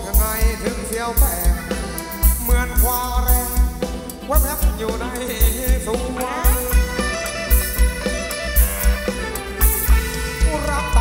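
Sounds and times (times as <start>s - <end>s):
live band dance music: 0.0s - 11.0s
loud bass drum beat: 0.0s - 11.0s.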